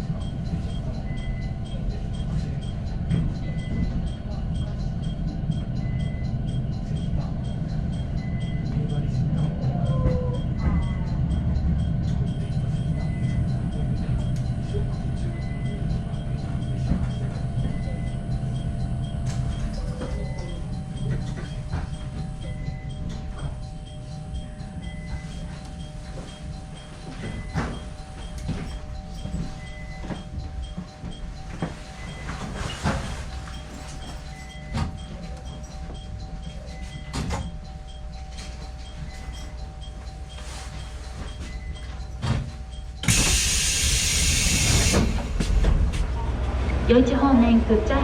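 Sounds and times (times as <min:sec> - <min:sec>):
electric train rumbling: 0:00.0 - 0:48.0
soft beep: 0:00.2 - 0:09.0, 0:09.7 - 0:45.5.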